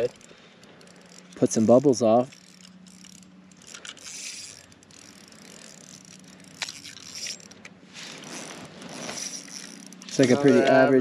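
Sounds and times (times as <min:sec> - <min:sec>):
fishing reel whirring and clicking: 0:00.0 - 0:10.8.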